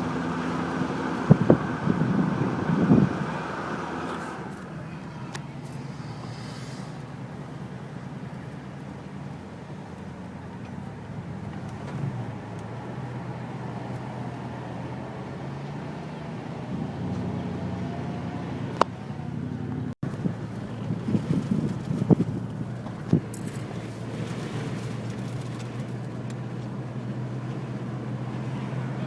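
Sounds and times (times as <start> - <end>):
car engine hum: 0.0 - 29.0
road noise: 0.0 - 29.0.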